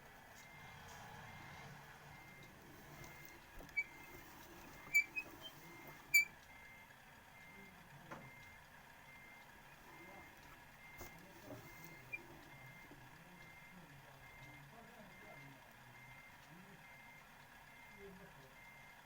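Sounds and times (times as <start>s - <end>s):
parking sensor beeping: 0.4s - 18.0s.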